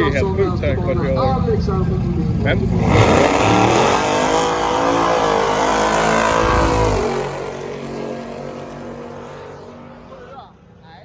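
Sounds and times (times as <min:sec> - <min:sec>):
drag car engine at full throttle: 0:00.0 - 0:10.8.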